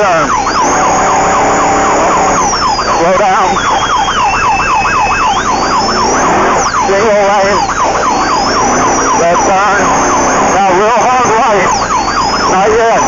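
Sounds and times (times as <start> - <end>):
high whine: 0.0 - 13.0
yelp siren warbling: 0.0 - 13.0.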